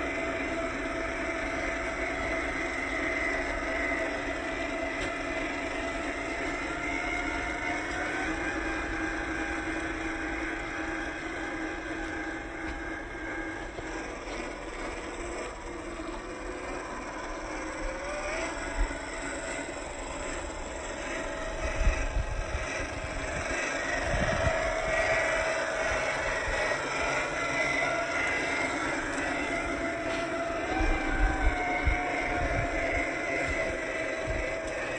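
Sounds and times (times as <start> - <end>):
toy truck motor whining: 0.0 - 34.9.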